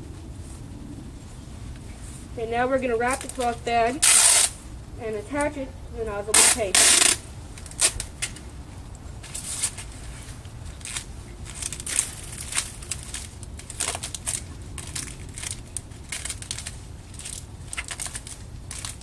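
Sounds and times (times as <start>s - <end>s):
low steady rumble: 0.0s - 19.0s
tape and cloth crackling and rustling: 0.0s - 19.0s.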